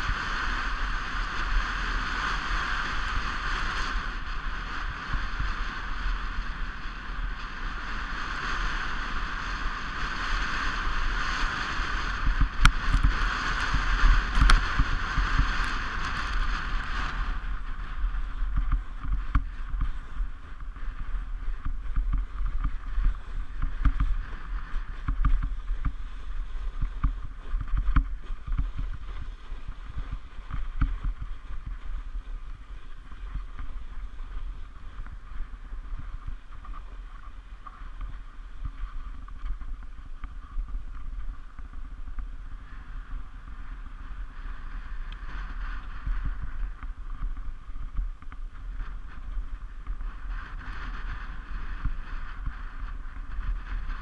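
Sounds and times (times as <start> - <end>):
low rumble: 0.0 - 54.0
sled runners scraping on snow: 0.0 - 54.0.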